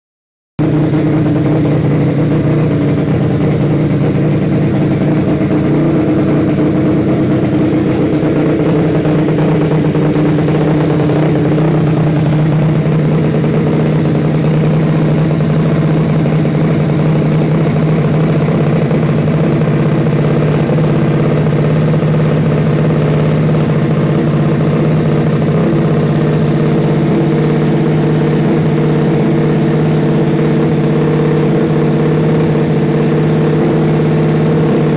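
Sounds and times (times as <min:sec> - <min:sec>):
scooter engine running steadily: 0:00.6 - 0:34.9.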